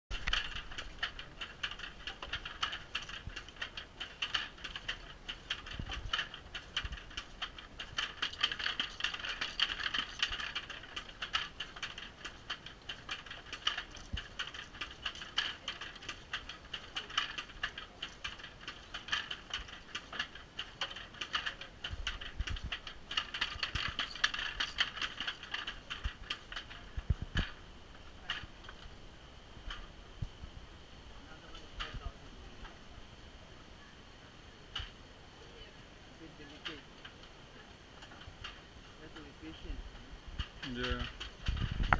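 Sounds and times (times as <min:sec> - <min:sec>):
wooden looms clattering: 0:00.1 - 0:29.0, 0:36.3 - 0:41.9.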